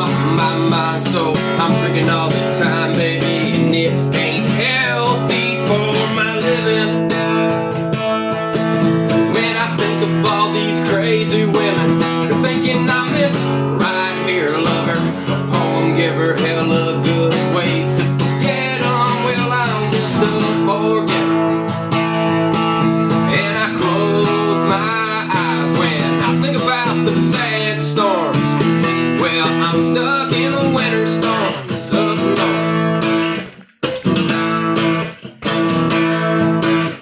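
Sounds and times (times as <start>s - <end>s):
strummed acoustic guitar: 0.0s - 37.0s.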